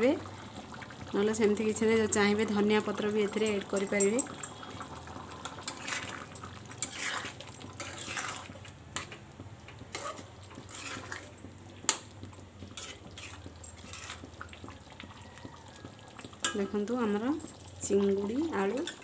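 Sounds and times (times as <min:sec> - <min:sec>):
curry bubbling: 0:00.0 - 0:19.0.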